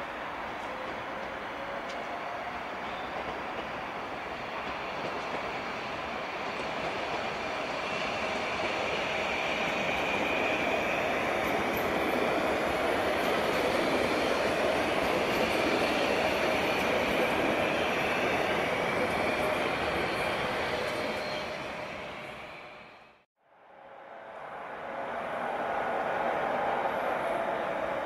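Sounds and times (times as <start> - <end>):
train wheels rumbling on rail: 0.0 - 22.8.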